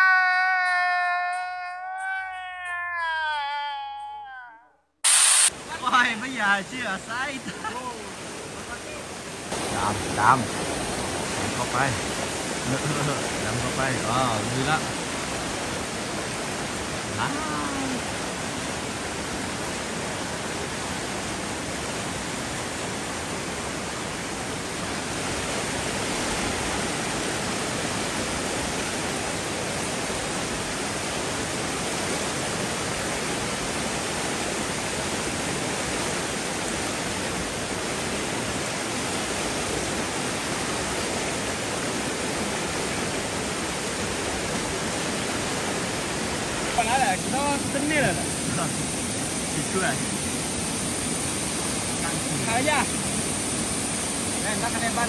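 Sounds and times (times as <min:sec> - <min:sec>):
stream rushing over rocks: 0:05.1 - 0:55.0.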